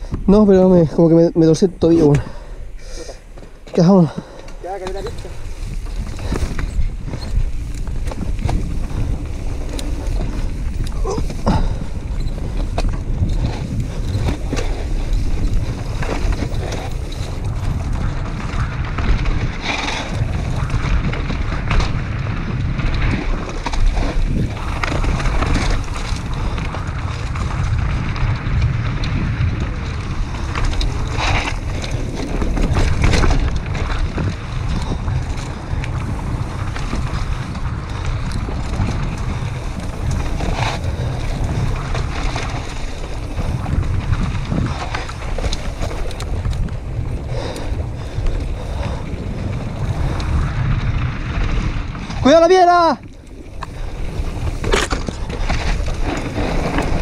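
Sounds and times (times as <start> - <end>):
tyres rolling over dirt: 0.0 - 57.0
wind rushing over microphone: 0.0 - 57.0
bike clattering over bumps: 1.5 - 57.0.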